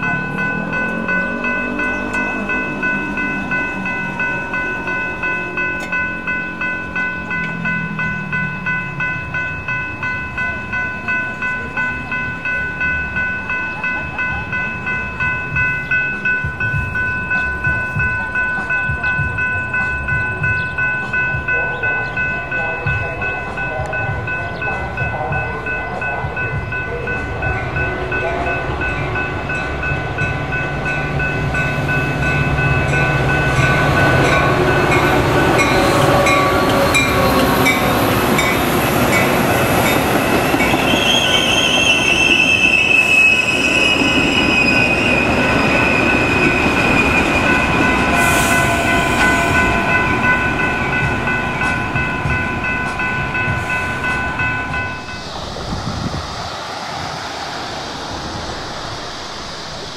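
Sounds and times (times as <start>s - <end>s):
crossing bell ringing: 0.0s - 56.5s
diesel locomotive engine rumble: 0.0s - 59.9s.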